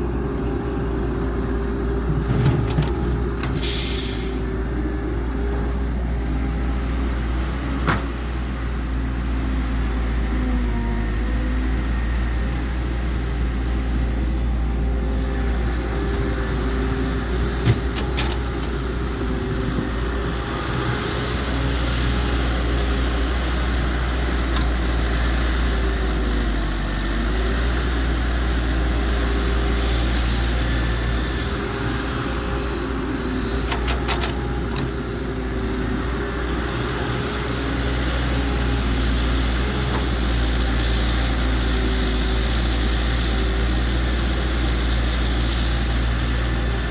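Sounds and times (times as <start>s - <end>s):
excavator diesel engine: 0.0s - 46.9s.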